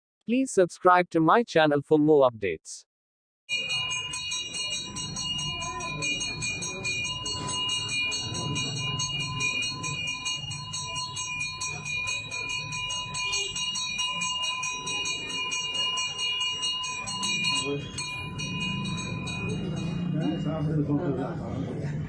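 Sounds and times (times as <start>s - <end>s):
bell ringing rapidly: 3.5s - 21.4s
murmur of voices: 3.6s - 22.0s.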